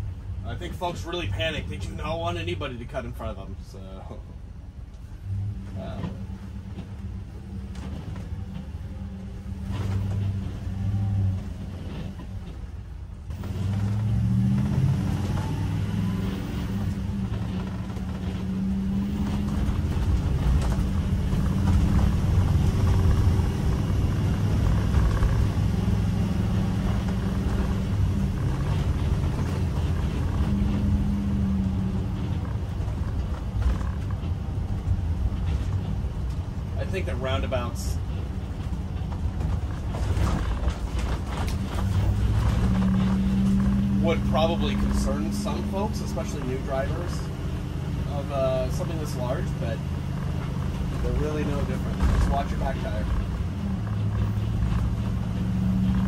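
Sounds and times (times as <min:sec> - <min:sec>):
road rumble: 0:00.0 - 0:56.0
vehicle engine humming: 0:00.0 - 0:56.0.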